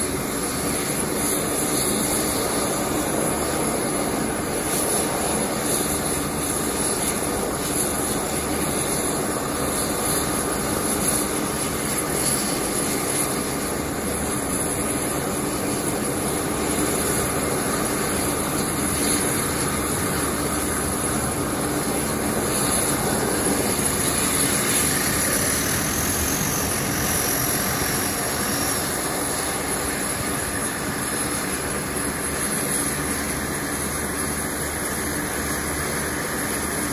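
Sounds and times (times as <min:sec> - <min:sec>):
high turbine whine: 0:00.0 - 0:36.9
turboprop engines rushing: 0:00.0 - 0:36.9.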